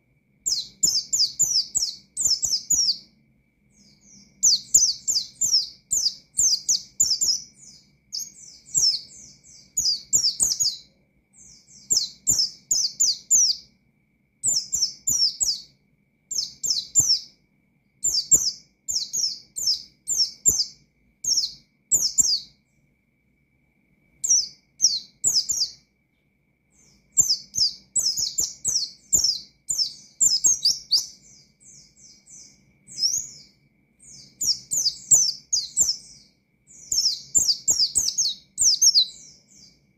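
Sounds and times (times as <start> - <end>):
bird singing: 0.0 - 23.1, 24.0 - 39.9.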